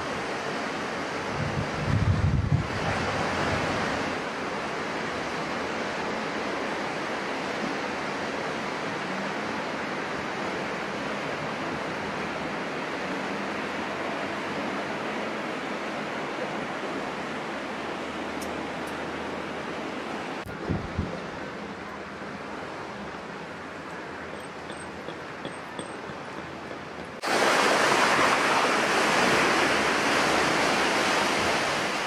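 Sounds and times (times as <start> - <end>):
fast turbulent river water: 0.0 - 32.0.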